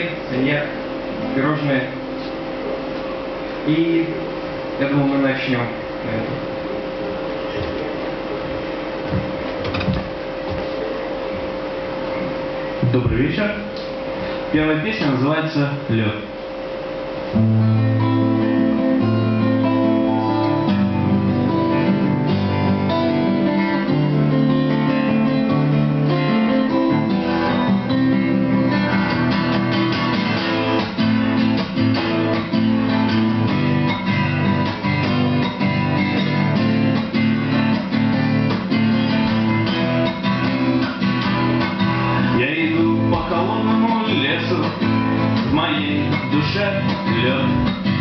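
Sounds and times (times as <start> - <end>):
acoustic guitar chords: 0.0 - 48.0.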